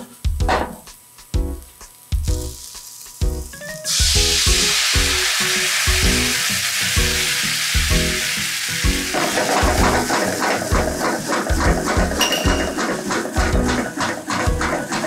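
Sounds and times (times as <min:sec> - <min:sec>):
background music with steady beat: 0:00.0 - 0:15.0
sauce sizzling in a frying pan: 0:01.4 - 0:13.5.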